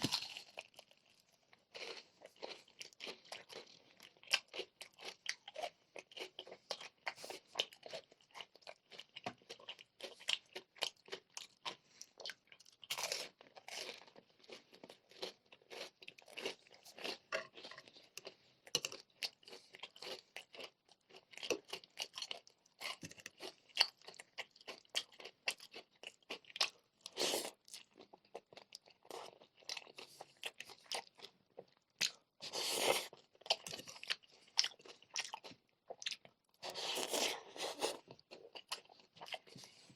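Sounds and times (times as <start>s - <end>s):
person chewing crispy food: 0.0s - 39.9s.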